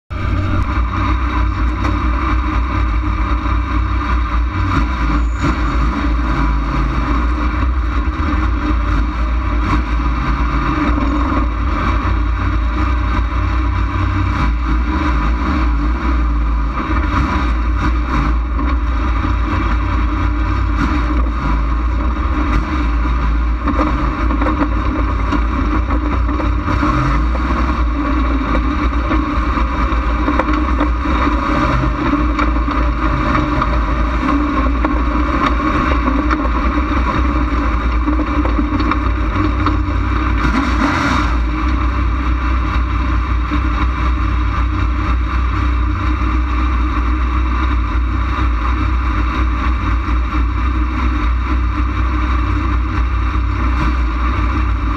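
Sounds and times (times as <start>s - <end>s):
race car engine rumbling: 0.0s - 54.9s.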